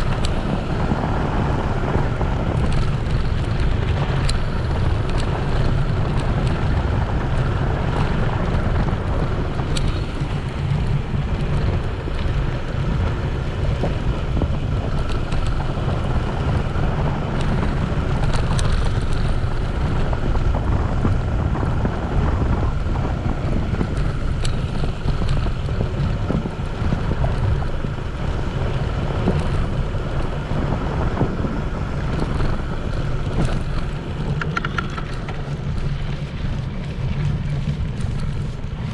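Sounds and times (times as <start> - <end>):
bicycle tyres rolling on dirt: 0.0 - 38.9
faint ticks and rattles: 0.0 - 38.9
wind buffeting microphone: 0.0 - 38.9.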